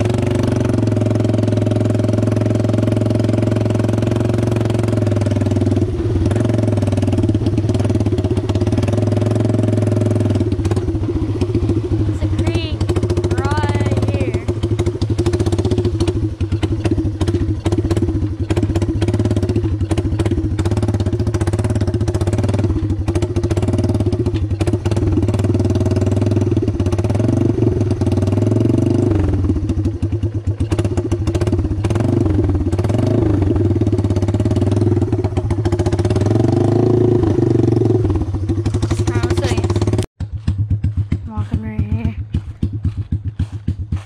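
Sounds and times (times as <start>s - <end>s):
atv engine with loud exhaust: 0.0s - 44.0s.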